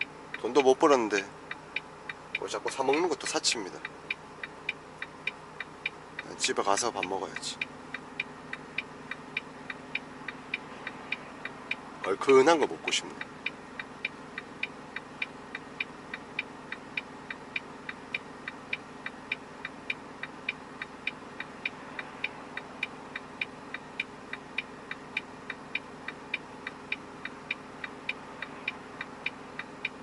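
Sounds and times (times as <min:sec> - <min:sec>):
engine hum: 0:00.0 - 0:30.0
turn signal ticking: 0:00.0 - 0:30.0.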